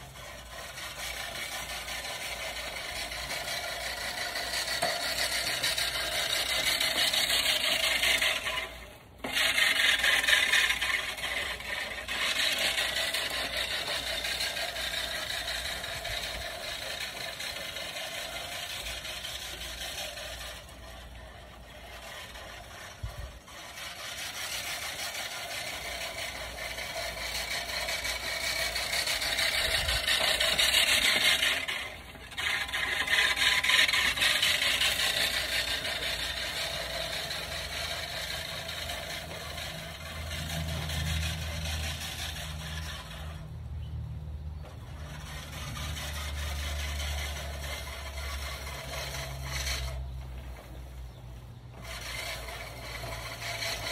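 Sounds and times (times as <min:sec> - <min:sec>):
reel mower cutting grass: 0:00.0 - 0:53.9.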